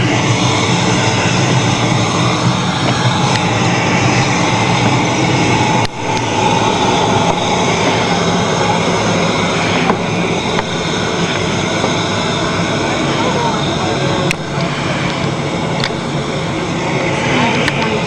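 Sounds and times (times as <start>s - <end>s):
geyser steam roaring: 0.0s - 18.0s.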